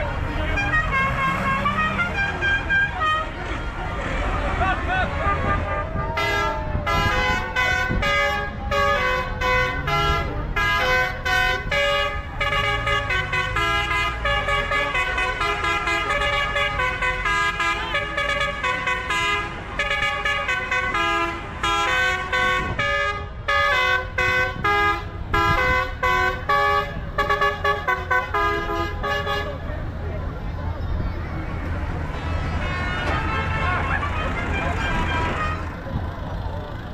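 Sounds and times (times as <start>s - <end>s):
engines rumbling: 0.0s - 36.9s
musical vehicle horn: 0.3s - 3.8s, 5.0s - 29.7s, 32.1s - 35.8s.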